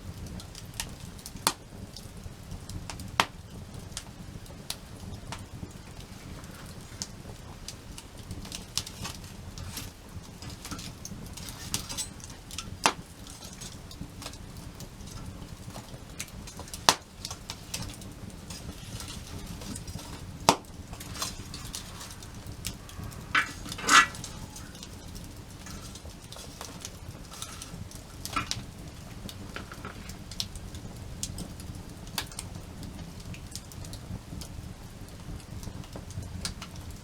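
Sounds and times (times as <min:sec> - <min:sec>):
sharp pops of burning wood: 0:00.0 - 0:37.0
wood fire crackling: 0:00.0 - 0:37.0.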